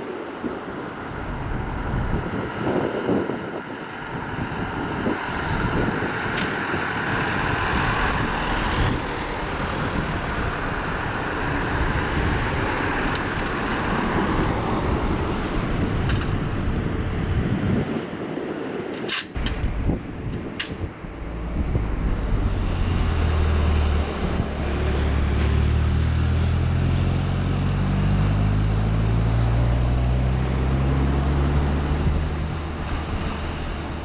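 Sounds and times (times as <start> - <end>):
turboprop aircraft engines roaring: 0.0 - 34.0.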